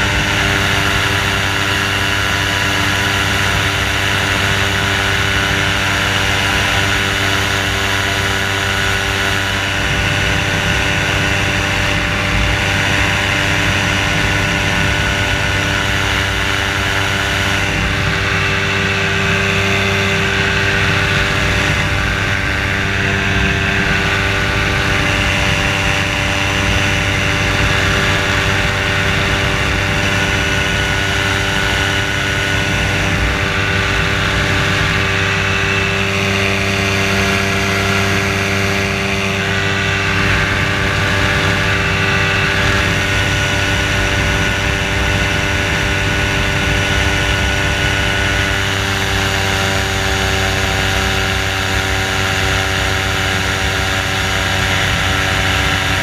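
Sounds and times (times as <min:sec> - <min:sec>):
ultralight engine and propeller: 0:00.0 - 0:56.0
wind rushing on microphone: 0:00.0 - 0:56.0.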